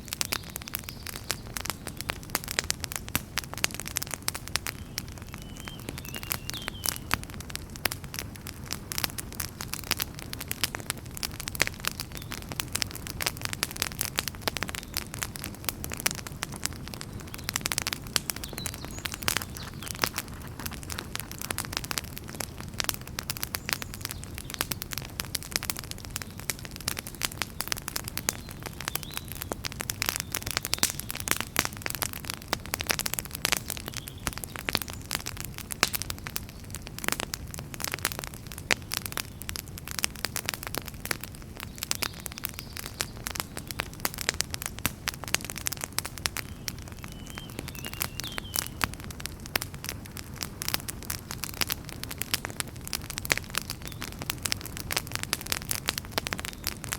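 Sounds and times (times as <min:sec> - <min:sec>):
fire crackling and popping: 0:00.0 - 0:56.9
low rumble of flames: 0:00.0 - 0:56.9.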